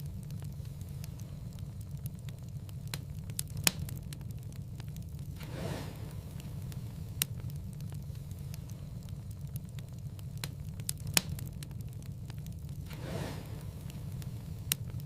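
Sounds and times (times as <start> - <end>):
sharp pops of fire: 0.0 - 15.0
soft swish of flame: 0.0 - 15.0
wood fire crackling: 0.0 - 15.0.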